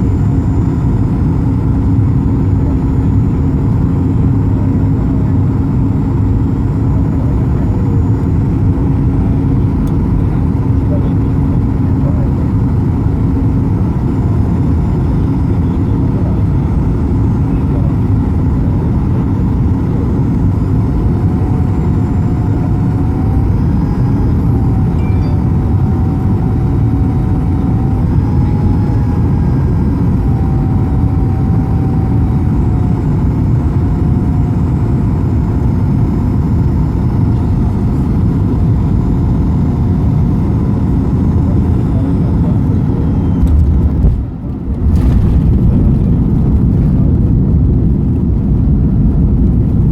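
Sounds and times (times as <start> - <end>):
faint wavering whine: 0.0 - 49.9
jet airliner cabin rumble: 0.0 - 49.9.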